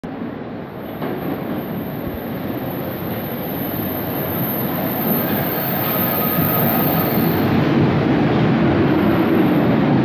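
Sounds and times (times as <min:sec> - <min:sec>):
subway train rumbling in tunnel: 0:00.0 - 0:10.0.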